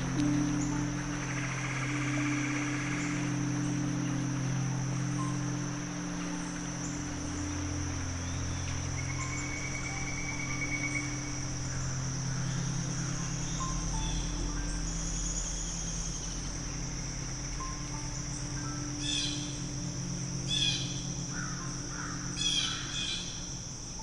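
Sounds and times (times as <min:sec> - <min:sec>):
crickets chirping: 0:00.0 - 0:24.0
soft ambient music: 0:00.0 - 0:24.0.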